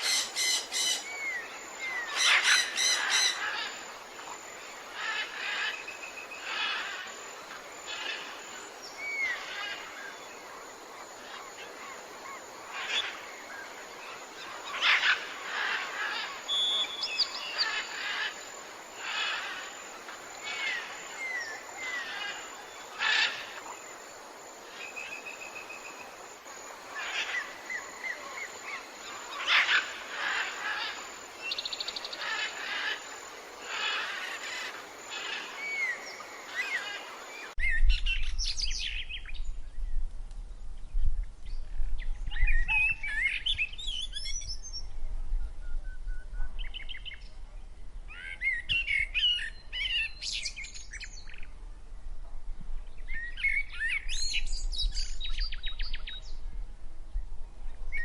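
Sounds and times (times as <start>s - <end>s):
wild birds singing and calling: 0.0s - 39.8s, 41.4s - 51.8s, 52.8s - 56.6s
steady outdoor hiss: 0.0s - 58.0s.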